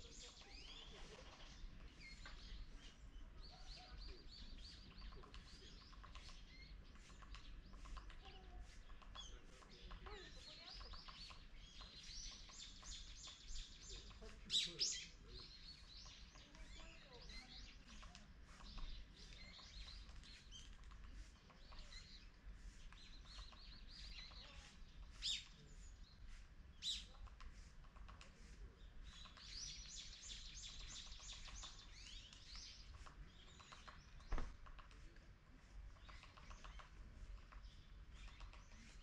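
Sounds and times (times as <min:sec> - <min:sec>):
small birds chirping and twittering: 0:00.0 - 0:39.0.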